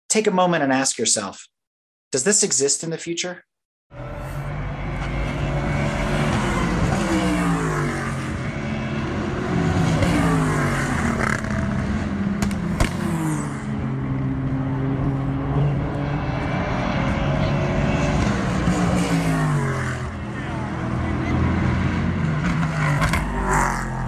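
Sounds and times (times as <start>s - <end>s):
race car engines revving: 3.9s - 24.0s.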